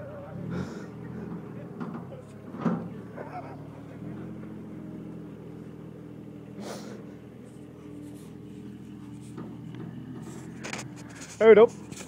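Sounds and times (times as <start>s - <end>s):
diesel dumper engine running: 0.0s - 12.0s.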